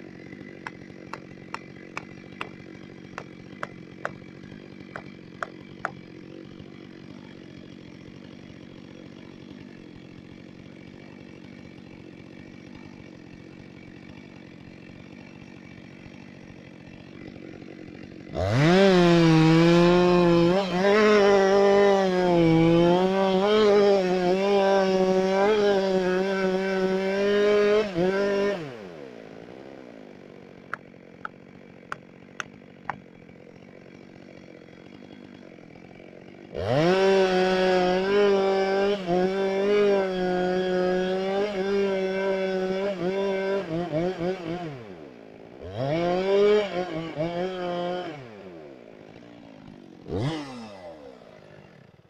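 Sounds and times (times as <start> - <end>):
chainsaw revving and idling: 0.0 - 52.0.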